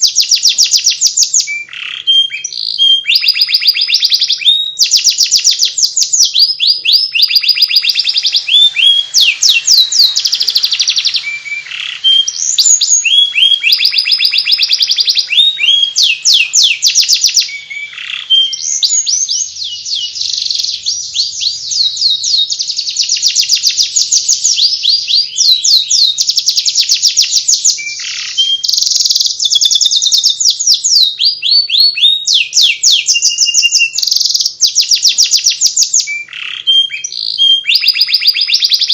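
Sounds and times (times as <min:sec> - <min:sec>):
canary singing chirps and trills: 0:00.0 - 0:38.9.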